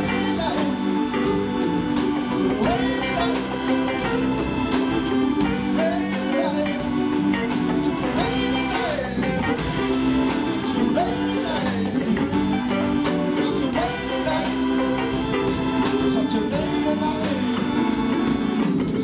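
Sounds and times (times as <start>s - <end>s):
drums and cymbals: 0.0s - 19.0s
organ sustained chords: 0.0s - 19.0s.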